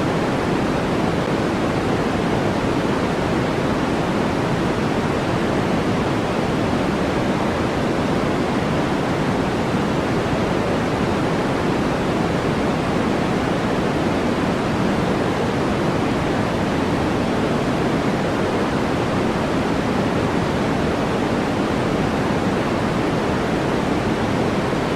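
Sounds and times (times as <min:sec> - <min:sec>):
soft white noise: 0:00.0 - 0:24.9.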